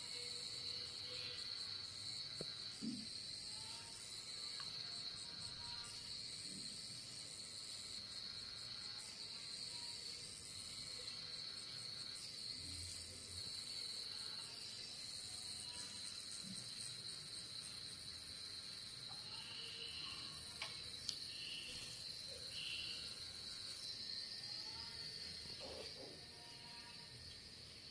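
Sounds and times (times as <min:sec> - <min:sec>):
tattoo machine high whine: 0:00.0 - 0:27.9.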